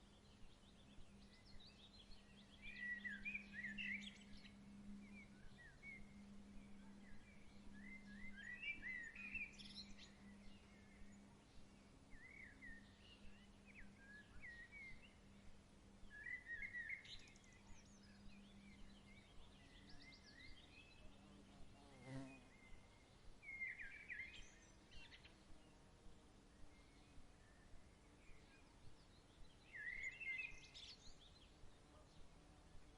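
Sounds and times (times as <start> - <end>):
low steady hum: 0.0 - 32.9
songbirds chirping and warbling: 0.0 - 32.9.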